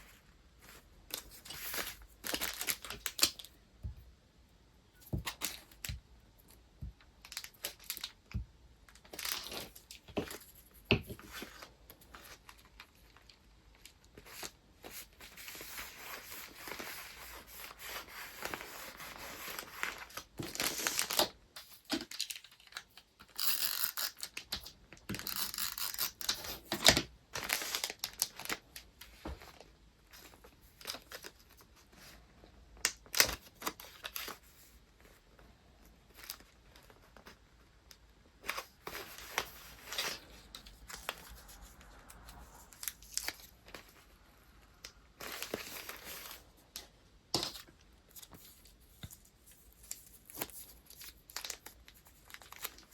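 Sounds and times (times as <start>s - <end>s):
paper crinkling and rustling: 0.0s - 3.6s, 5.1s - 37.8s, 38.4s - 52.9s.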